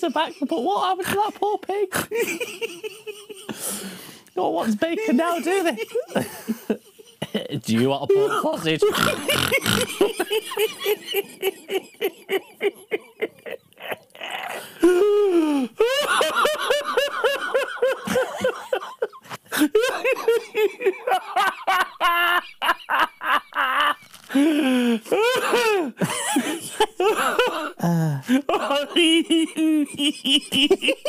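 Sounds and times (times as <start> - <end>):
man laughing hard: 0.0 - 3.6, 4.6 - 31.0.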